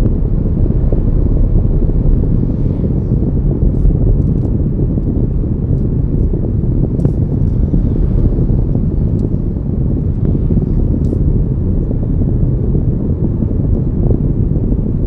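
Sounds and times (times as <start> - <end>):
car driving rumble: 0.0 - 15.0
road and wind noise: 0.0 - 15.0.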